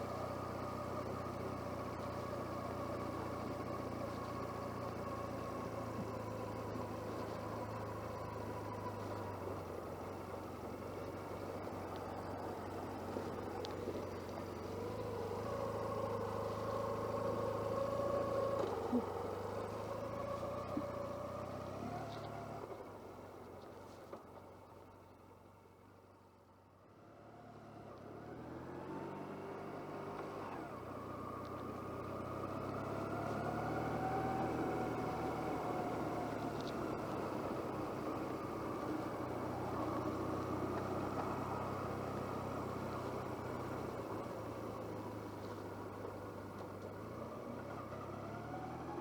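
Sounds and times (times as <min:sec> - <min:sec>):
motorcycle engine and road noise: 0:00.0 - 0:49.0.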